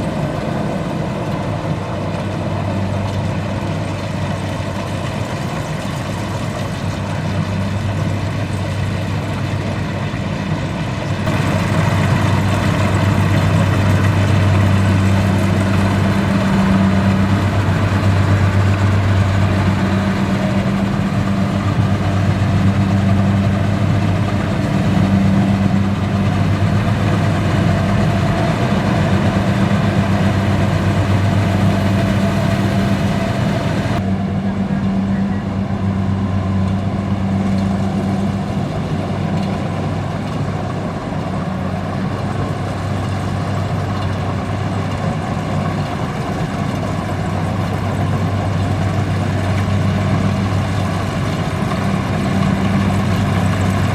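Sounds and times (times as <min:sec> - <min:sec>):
combine harvester engine hum: 0:00.0 - 0:53.9.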